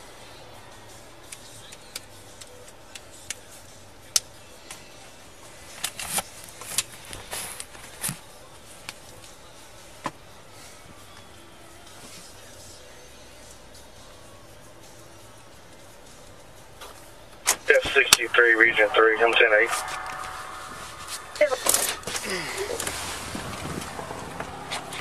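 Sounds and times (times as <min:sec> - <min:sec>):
low hum in car: 0:00.0 - 0:25.0.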